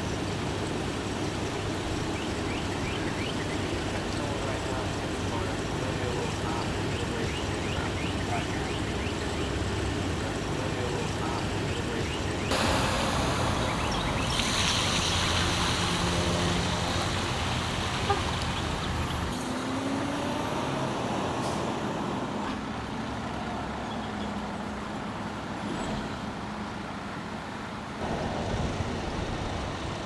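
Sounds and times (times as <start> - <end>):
heavy vehicle engines running: 0.0 - 30.0
road traffic hiss: 0.0 - 30.0.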